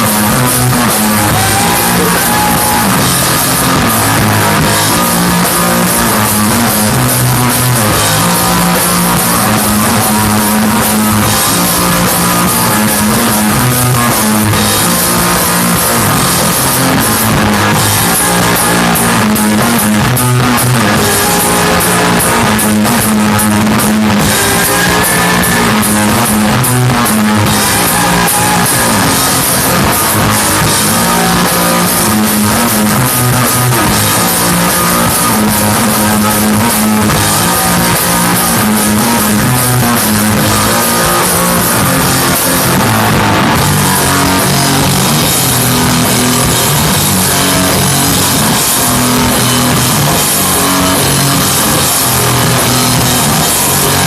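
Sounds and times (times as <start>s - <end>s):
loud rock band music: 0.0s - 54.0s.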